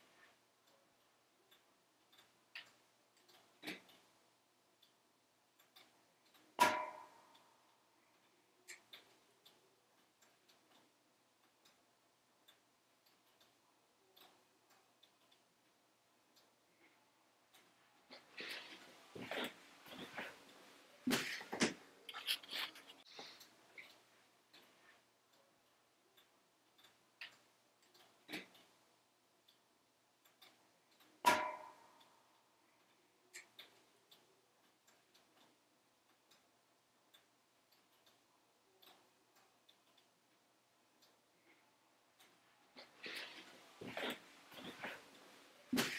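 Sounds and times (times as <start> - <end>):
logs crackling in wood stove: 0.0 - 45.9.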